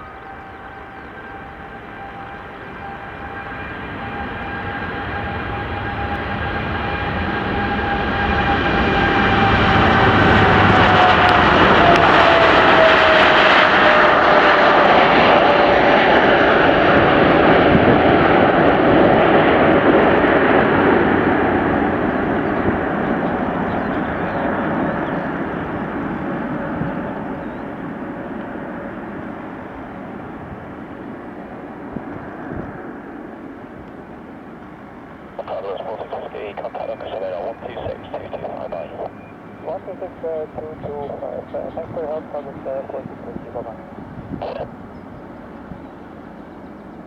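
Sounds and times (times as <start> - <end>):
jet airliner taking off: 0.0 - 47.0.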